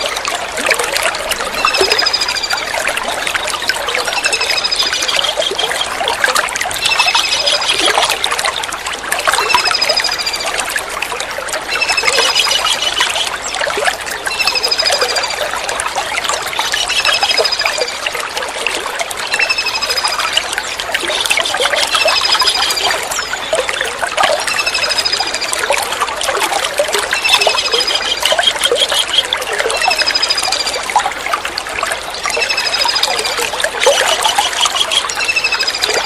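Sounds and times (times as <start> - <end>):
trickling water: 0.0 - 36.0.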